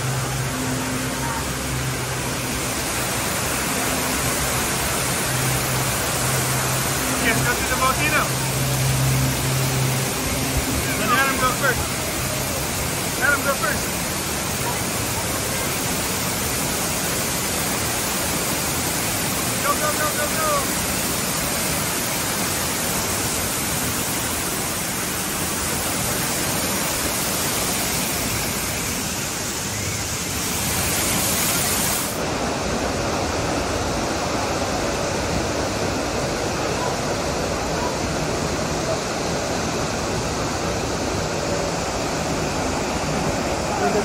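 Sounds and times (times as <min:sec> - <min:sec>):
water rushing and splashing: 0:00.0 - 0:44.0.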